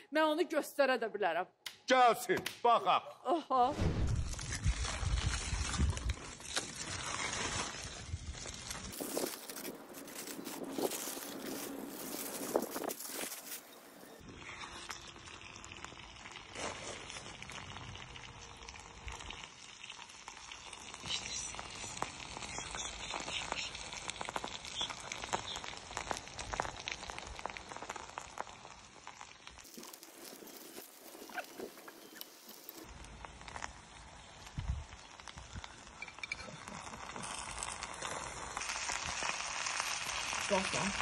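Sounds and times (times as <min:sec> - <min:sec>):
stew sizzling and bubbling: 0:03.8 - 0:41.0.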